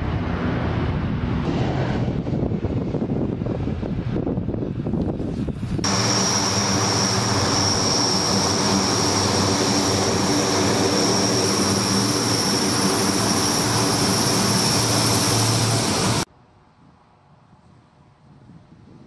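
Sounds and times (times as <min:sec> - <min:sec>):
low hum: 0:00.0 - 0:05.1, 0:05.7 - 0:16.3
high engine whine: 0:00.0 - 0:16.3
turboprop aircraft taxiing: 0:00.0 - 0:16.3.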